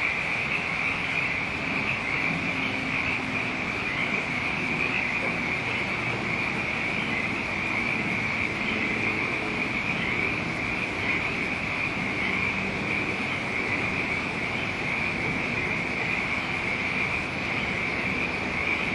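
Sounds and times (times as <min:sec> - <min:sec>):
shrill chorus of frogs or insects: 0:00.0 - 0:18.9
wind rumble: 0:00.0 - 0:18.9.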